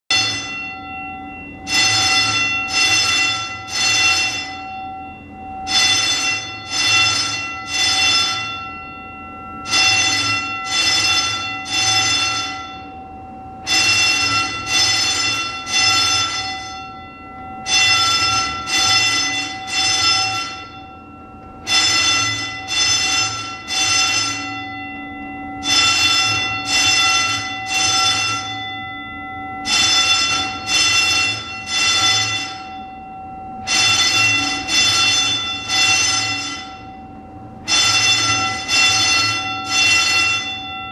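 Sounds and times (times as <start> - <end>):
fire alarm ringing: 0.1 - 40.9.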